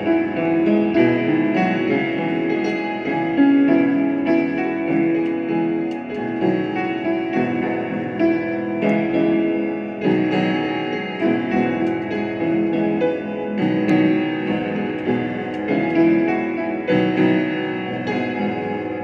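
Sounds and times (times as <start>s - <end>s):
keyboard playing slow chords: 0.0s - 19.0s.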